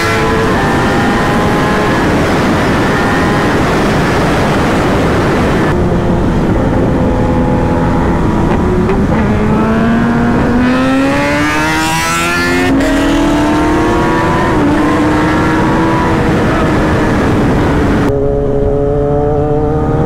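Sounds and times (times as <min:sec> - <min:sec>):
motorcycle engine accelerating: 0:00.0 - 0:20.0
wind rushing over microphone: 0:00.0 - 0:20.0.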